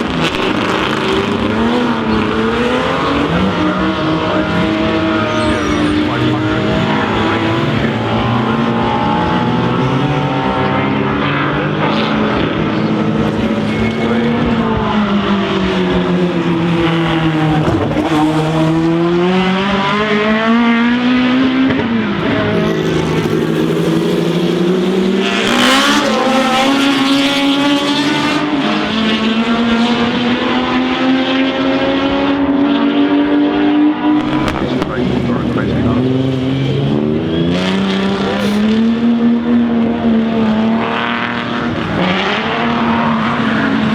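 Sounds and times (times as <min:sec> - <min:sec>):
racing car engines: 0:00.0 - 0:43.9.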